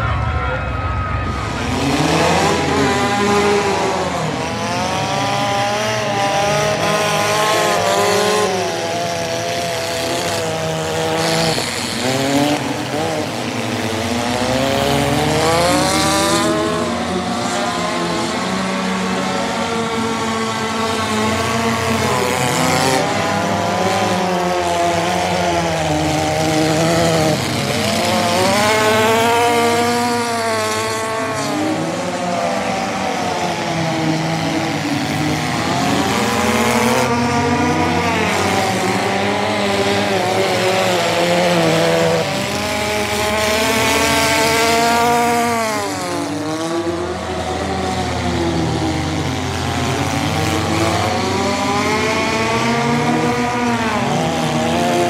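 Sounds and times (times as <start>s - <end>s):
car engines racing: 0.0s - 55.0s.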